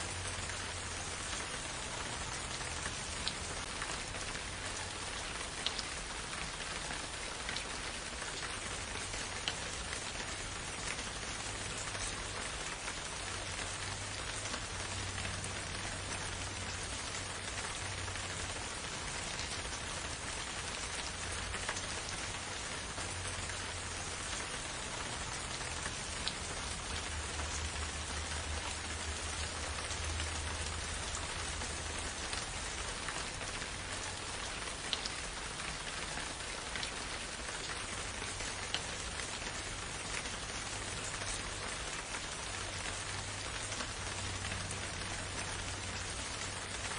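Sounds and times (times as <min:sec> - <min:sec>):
raindrops ticking: 0:00.0 - 0:46.9
steady rain hiss: 0:00.0 - 0:46.9.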